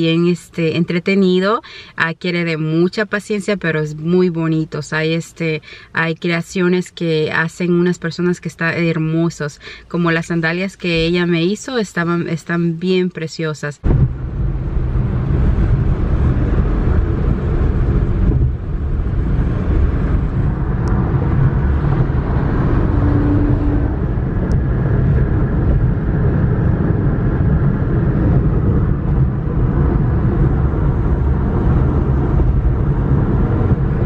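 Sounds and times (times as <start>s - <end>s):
car cabin road and wind noise: 0.0s - 34.0s.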